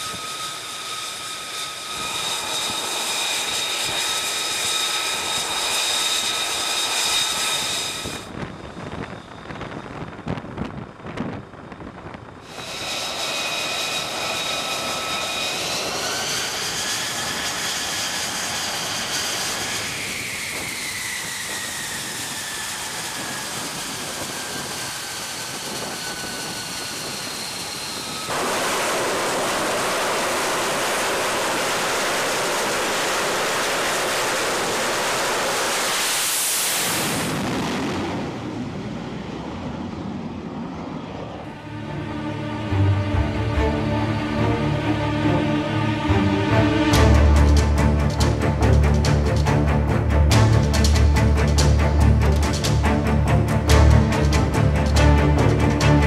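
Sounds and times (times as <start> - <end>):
jet engine whine and roar: 0.0 - 56.0.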